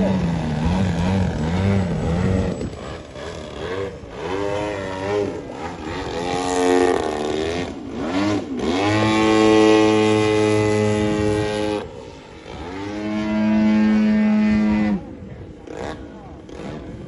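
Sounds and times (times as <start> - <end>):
model airplane motor revving: 0.0 - 17.0.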